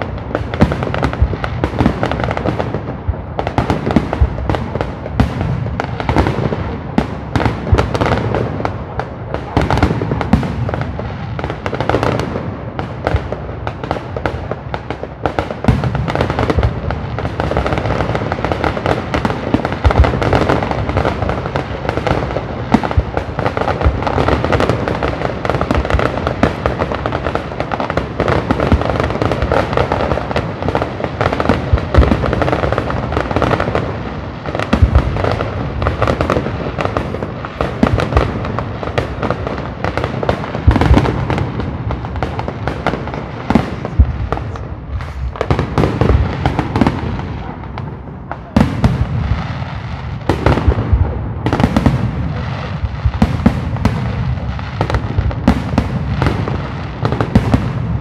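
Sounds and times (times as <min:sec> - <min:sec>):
fireworks bursting and crackling: 0:00.0 - 0:58.0
loud sharp fireworks reports: 0:00.0 - 0:58.0.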